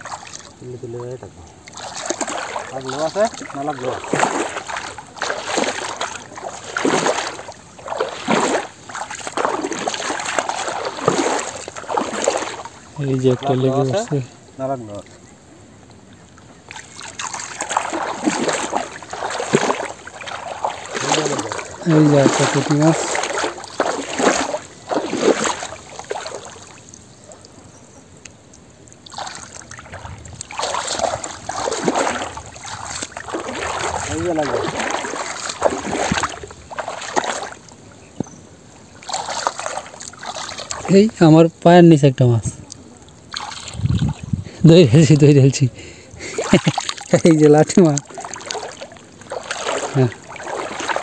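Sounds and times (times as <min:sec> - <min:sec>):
muddy water splashing: 0:00.0 - 0:51.0.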